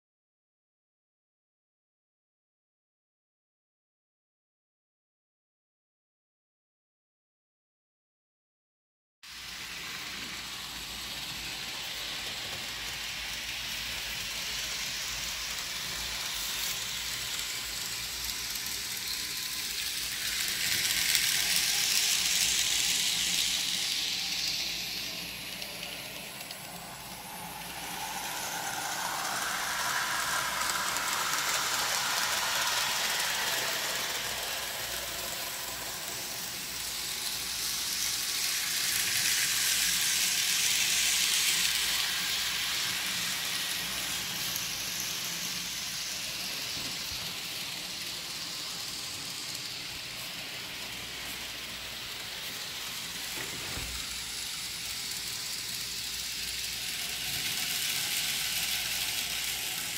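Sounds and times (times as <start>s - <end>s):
model train wheels rattling on rails: 9.3s - 59.9s.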